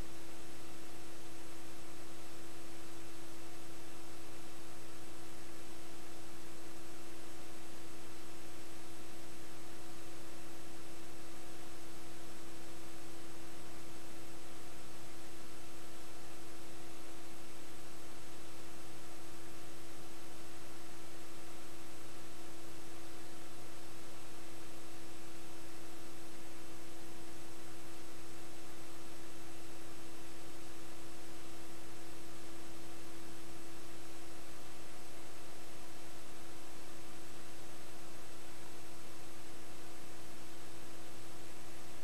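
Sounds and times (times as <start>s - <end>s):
electrical hum and hiss: 0.0s - 42.0s.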